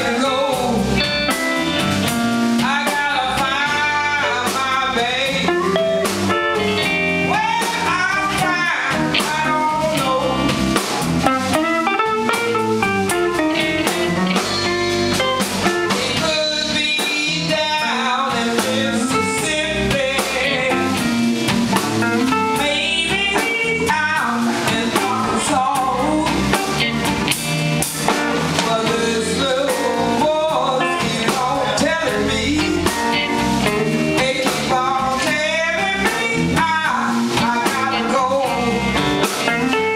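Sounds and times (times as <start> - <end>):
woman singing: 0.0 - 1.3, 2.5 - 10.9, 14.4 - 27.1, 28.3 - 39.7
bass guitar: 0.0 - 39.9
drum kit: 0.0 - 39.9
electric guitars: 0.0 - 39.9.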